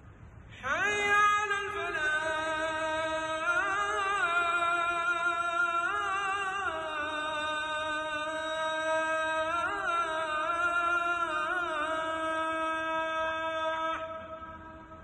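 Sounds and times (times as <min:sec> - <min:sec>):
man singing through loudspeaker: 0:00.6 - 0:15.0.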